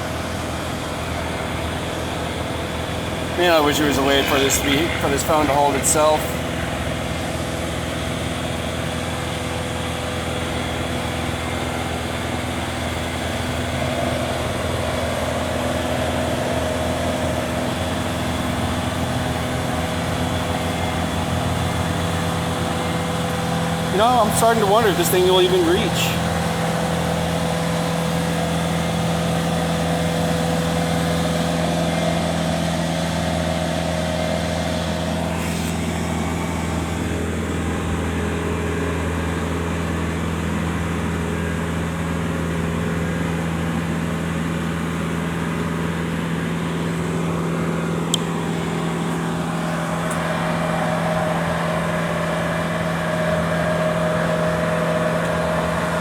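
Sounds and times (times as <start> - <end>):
aerial lift engine humming: 0.0 - 56.0.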